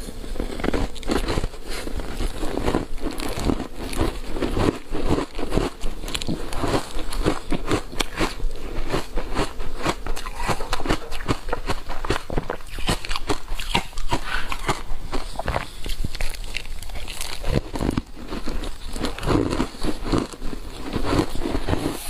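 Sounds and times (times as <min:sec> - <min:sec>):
ice being crunched by chewing: 0:00.3 - 0:22.0.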